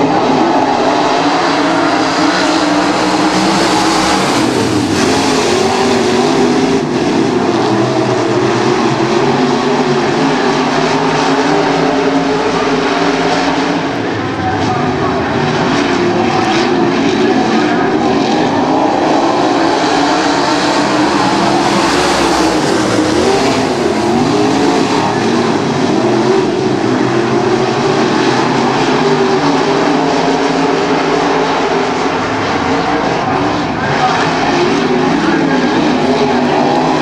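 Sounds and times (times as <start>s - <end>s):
race car engines droning: 0.0s - 37.0s.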